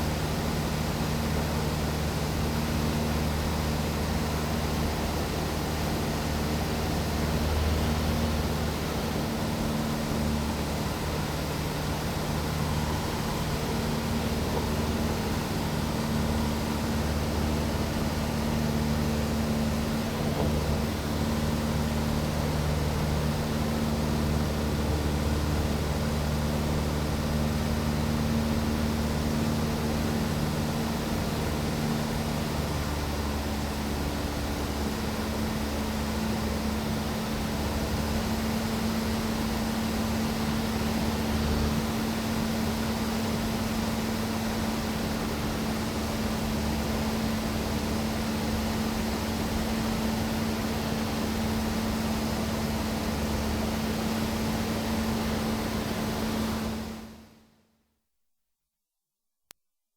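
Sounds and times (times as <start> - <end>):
aircraft engine drone: 0.0 - 57.2.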